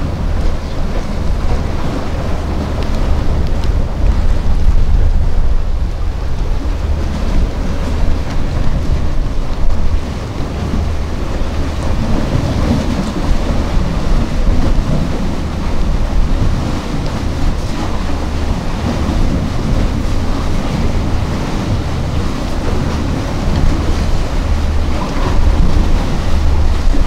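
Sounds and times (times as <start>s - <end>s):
sea surf against concrete: 0.0s - 27.0s
wind buffeting microphone: 0.0s - 27.0s.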